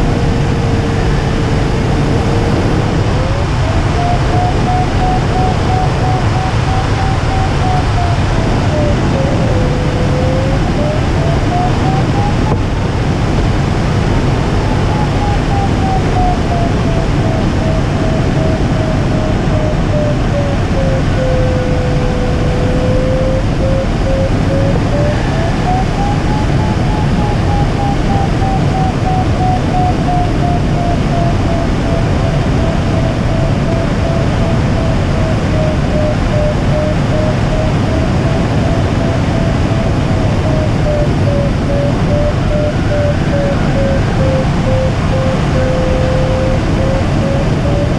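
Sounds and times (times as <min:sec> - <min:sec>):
variometer beeping tone: 0:00.0 - 0:47.9.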